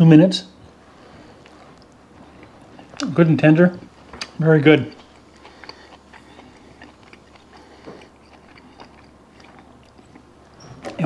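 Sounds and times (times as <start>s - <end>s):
person chewing: 1.0s - 11.0s.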